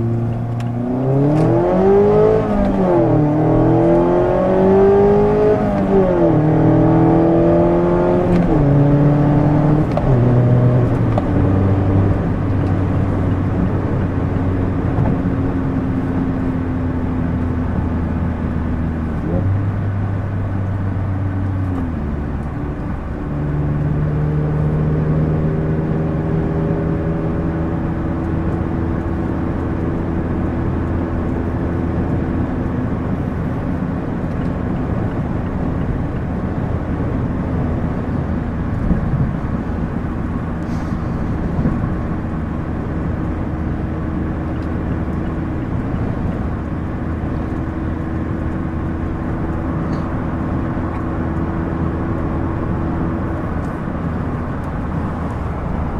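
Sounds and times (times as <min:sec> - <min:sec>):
car engine accelerating: 0:00.0 - 0:55.9
road noise: 0:00.0 - 0:55.9.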